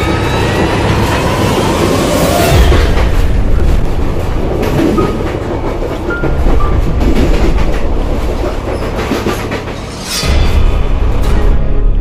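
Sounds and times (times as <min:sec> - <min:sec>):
train wheels rumbling: 0:00.0 - 0:11.9.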